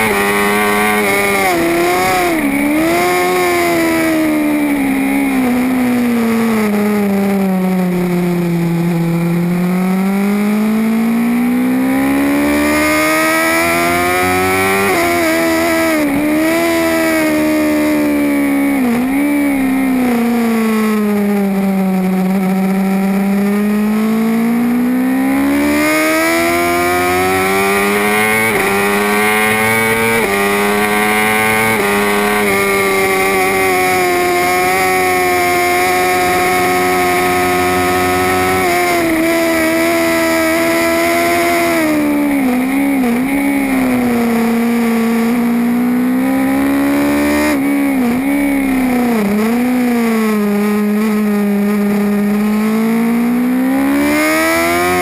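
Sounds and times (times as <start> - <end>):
superbike engine revving: 0.0 - 55.0.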